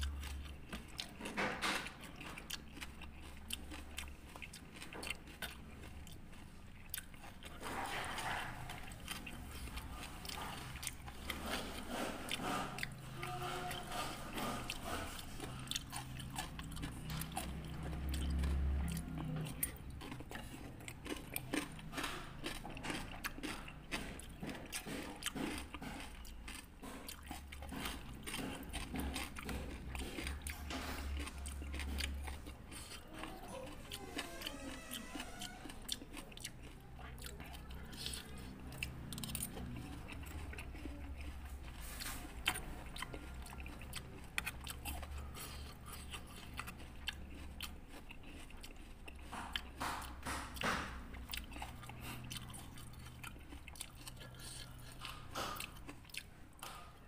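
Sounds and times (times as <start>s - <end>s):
chewing and crunching fruit: 0.0s - 57.0s.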